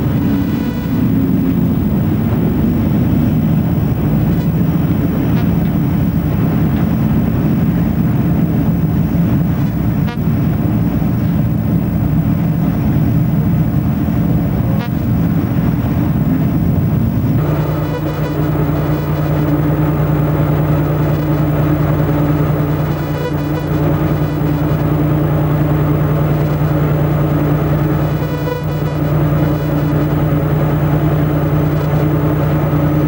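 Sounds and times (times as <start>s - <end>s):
ship machinery rumble: 0.0s - 33.0s.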